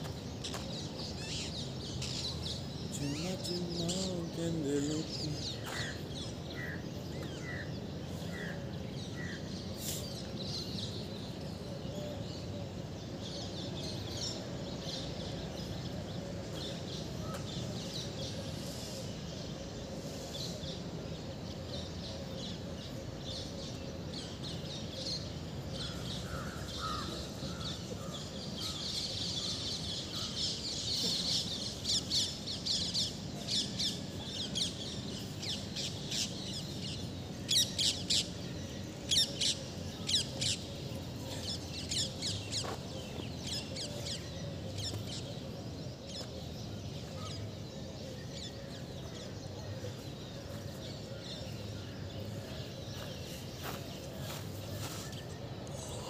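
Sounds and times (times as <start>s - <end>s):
birds chirping and calling: 0.0s - 56.0s
steady background hum: 0.0s - 56.0s.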